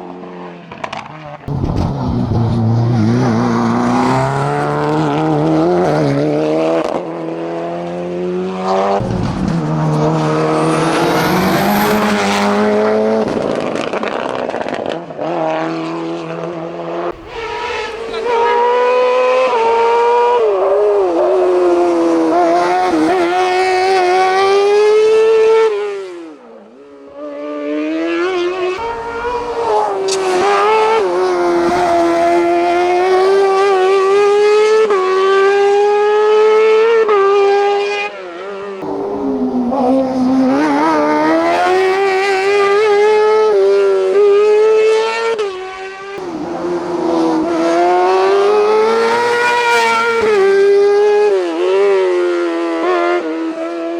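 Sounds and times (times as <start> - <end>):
race car engine at full throttle: 0.0 - 53.9.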